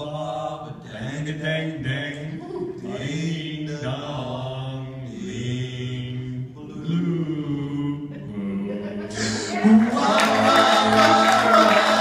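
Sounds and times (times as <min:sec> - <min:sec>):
male voices singing a cappella: 0:00.0 - 0:12.0.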